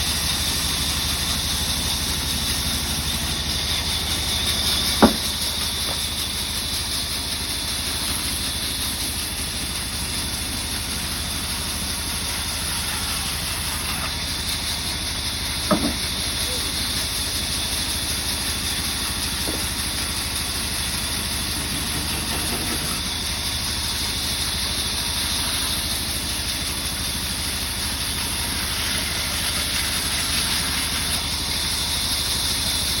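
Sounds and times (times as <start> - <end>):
sawmill machinery running: 0.0 - 33.0.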